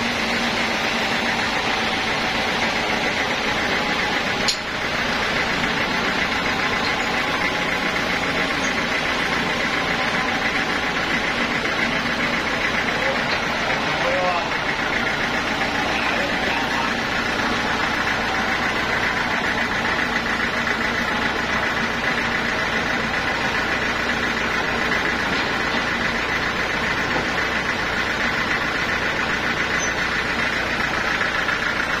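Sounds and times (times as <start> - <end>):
sawmill engine running: 0.0 - 32.0.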